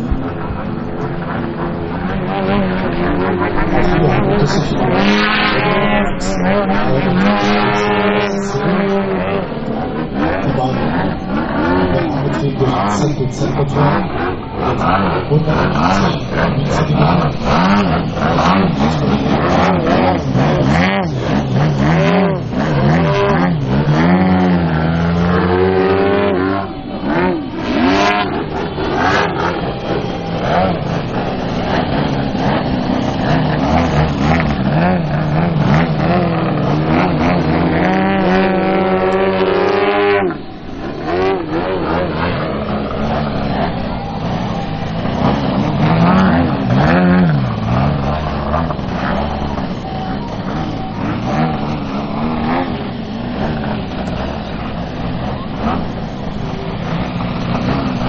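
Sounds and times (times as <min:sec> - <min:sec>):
model plane engines and propellers: 0:00.0 - 0:58.0.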